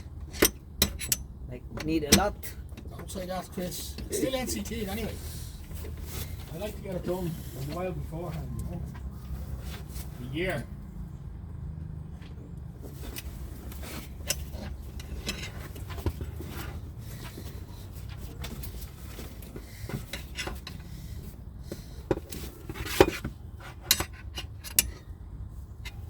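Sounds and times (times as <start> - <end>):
metal tools clinking and scraping: 0.0 - 10.7, 12.8 - 26.0.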